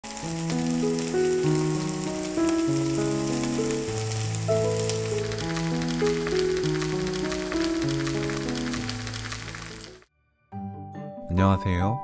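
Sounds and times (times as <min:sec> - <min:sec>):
pancakes sizzling in oil: 0:00.0 - 0:10.0
background music of held notes: 0:00.1 - 0:09.9.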